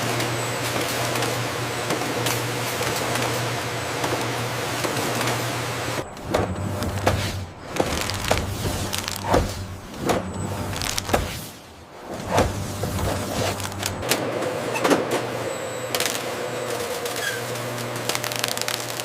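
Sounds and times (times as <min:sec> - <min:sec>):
machinery clicks and clunks: 0:00.0 - 0:11.4, 0:12.0 - 0:19.0
machinery humming: 0:00.0 - 0:19.0.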